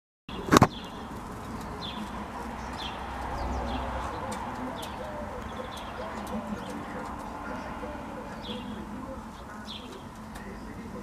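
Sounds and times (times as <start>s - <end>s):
canaries chirping: 0.3s - 11.0s.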